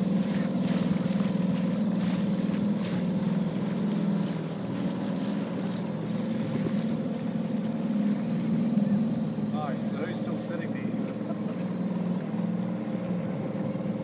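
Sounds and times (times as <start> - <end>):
motorboat engine humming: 0.0 - 14.0
water wash: 0.0 - 14.0.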